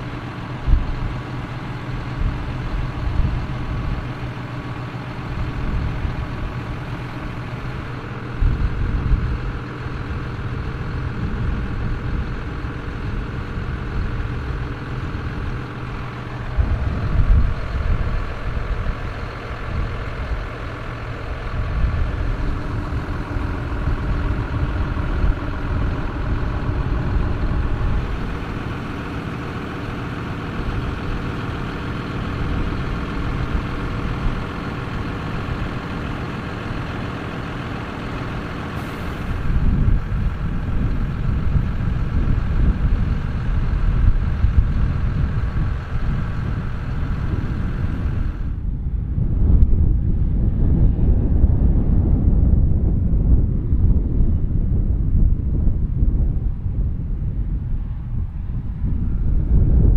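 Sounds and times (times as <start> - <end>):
diesel tractor engines running: 0.0 - 59.9.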